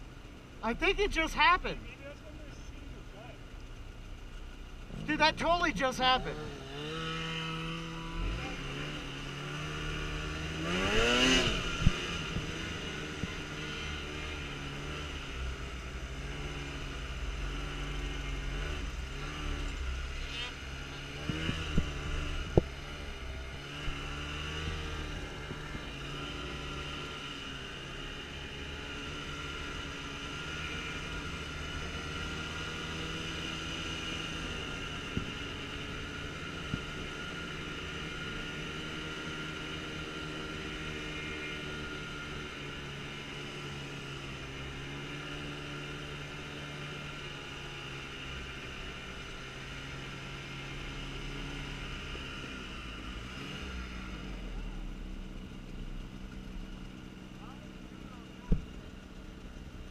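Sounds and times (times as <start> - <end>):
snowmobile engine running: 4.3 - 59.9.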